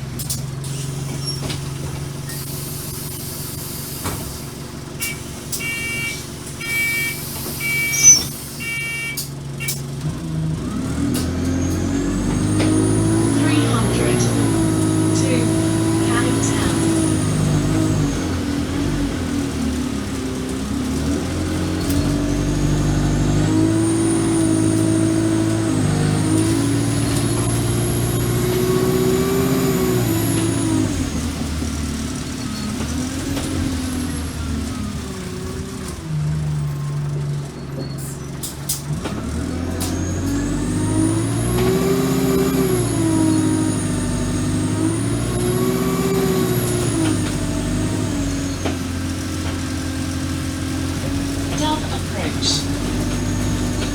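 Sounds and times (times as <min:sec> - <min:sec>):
bus engine accelerating: 0:00.0 - 0:53.9
high engine whine: 0:02.2 - 0:37.2, 0:39.8 - 0:53.9.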